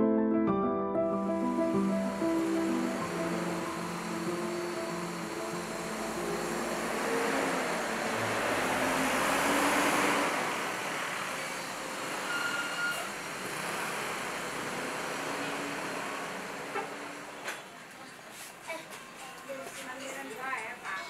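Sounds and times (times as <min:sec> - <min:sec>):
bus passing close by: 0:01.2 - 0:18.3
cars and motorbikes traffic: 0:01.3 - 0:21.0.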